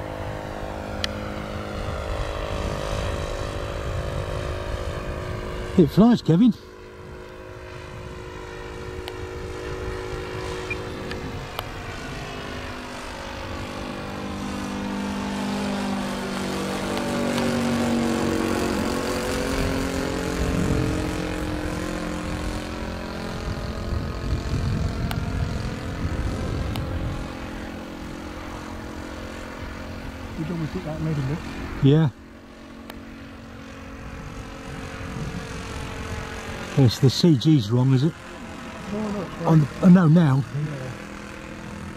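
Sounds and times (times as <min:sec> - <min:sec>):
model airplane engine and propeller: 0:00.0 - 0:41.9.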